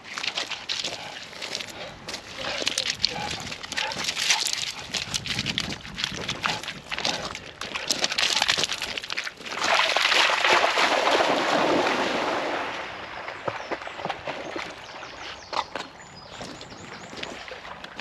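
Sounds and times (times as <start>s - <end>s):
dogs splashing through water: 0.0s - 18.0s.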